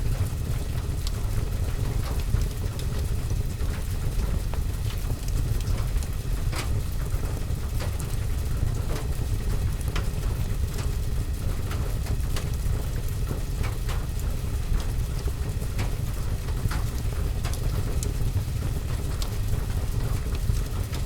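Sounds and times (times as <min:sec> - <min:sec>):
rain on window and roof: 0:00.1 - 0:21.0.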